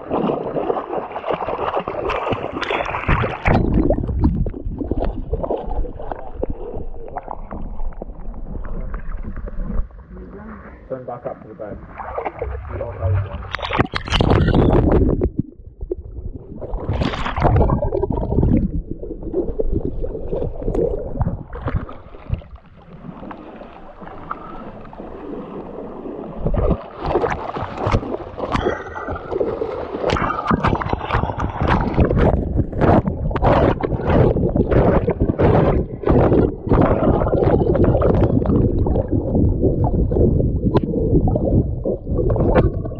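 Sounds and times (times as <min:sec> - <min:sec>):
river water sloshing and gurgling: 0:00.0 - 0:10.2, 0:11.8 - 0:15.2, 0:16.2 - 0:42.9
choppy splashes: 0:00.0 - 0:42.9.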